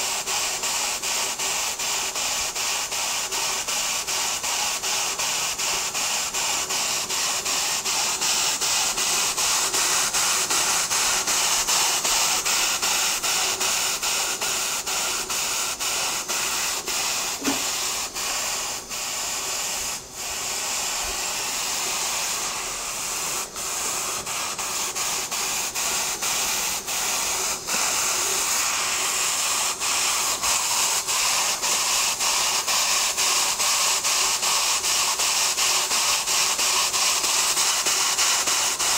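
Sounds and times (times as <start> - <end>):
steam exhaust beats: 0.0 - 38.9
steam hiss: 0.0 - 38.9.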